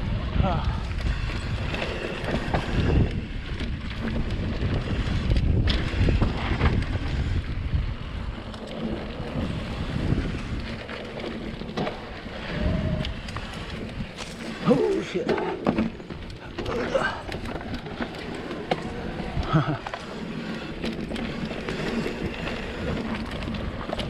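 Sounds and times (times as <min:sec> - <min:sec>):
bike knocking and rattling: 0:00.0 - 0:24.0
bike tyres on dirt trail: 0:00.0 - 0:24.0
wind buffeting microphone: 0:00.0 - 0:24.0.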